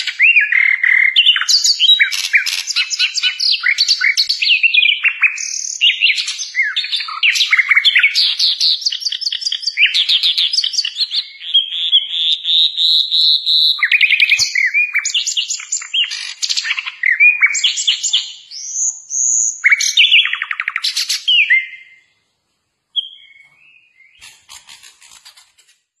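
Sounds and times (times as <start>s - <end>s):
flycatcher singing: 0.0s - 22.0s.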